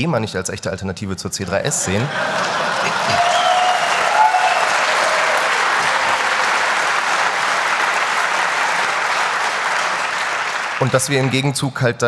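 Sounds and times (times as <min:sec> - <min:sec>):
audience applauding: 0:01.8 - 0:11.6.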